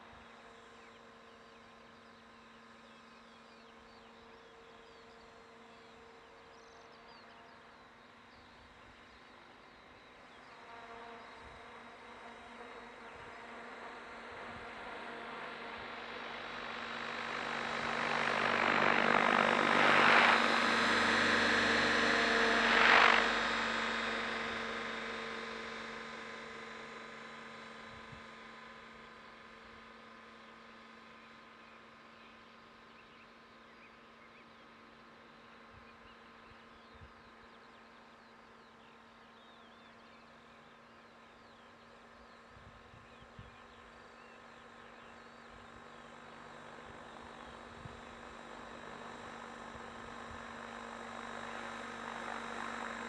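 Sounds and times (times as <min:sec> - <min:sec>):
rc helicopter rotor and motor hum: 0:00.0 - 0:53.0.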